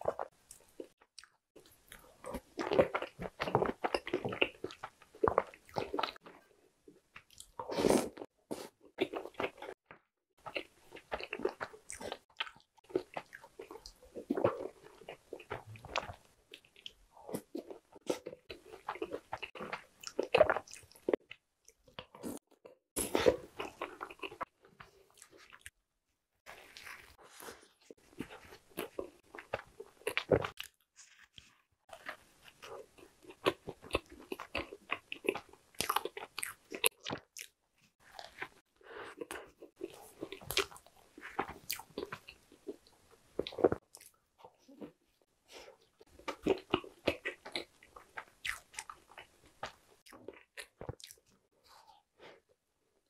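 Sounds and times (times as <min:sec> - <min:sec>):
chewing and biting cakes: 0:00.0 - 0:25.8, 0:26.5 - 0:52.4.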